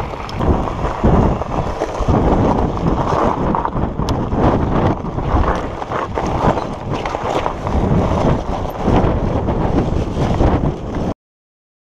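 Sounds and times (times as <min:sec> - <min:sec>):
bike tyres crunching over stones: 0:00.0 - 0:11.0
bike rattling: 0:00.0 - 0:11.1
wind buffeting microphone: 0:00.0 - 0:11.1.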